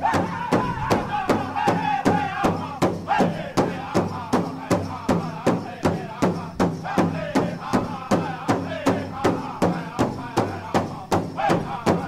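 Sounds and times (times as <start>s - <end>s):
drum beating steadily: 0.0s - 12.0s
voices chanting: 0.0s - 12.0s.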